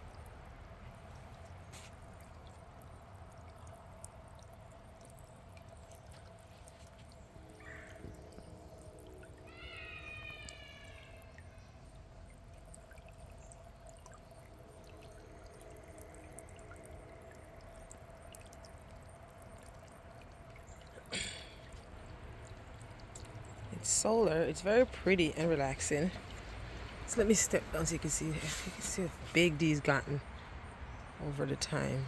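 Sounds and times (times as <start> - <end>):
fountain water trickling: 0.0 - 32.0.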